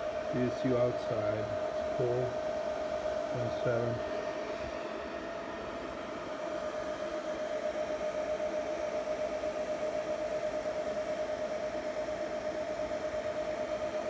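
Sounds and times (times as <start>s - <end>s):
cooling fans whining hiss: 0.0s - 14.0s.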